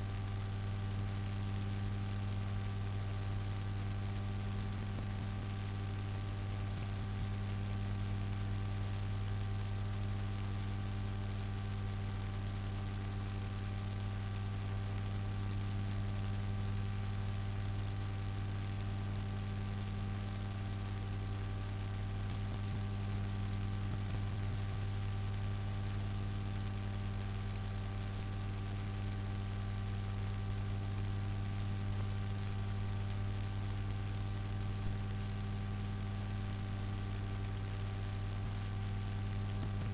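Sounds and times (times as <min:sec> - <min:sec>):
constant hiss: 0:00.0 - 0:39.9
electrical mains hum: 0:00.0 - 0:39.9.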